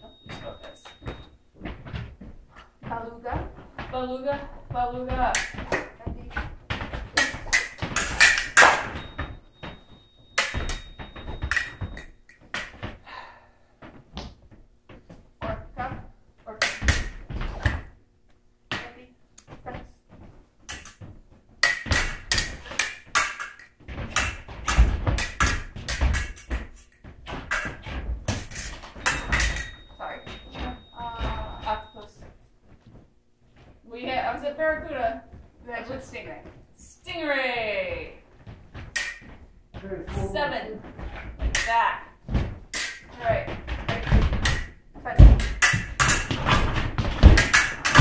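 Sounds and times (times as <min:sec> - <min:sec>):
sharp knocks and bouncing impacts: 0:00.0 - 0:13.2, 0:13.8 - 0:18.0, 0:18.7 - 0:48.0.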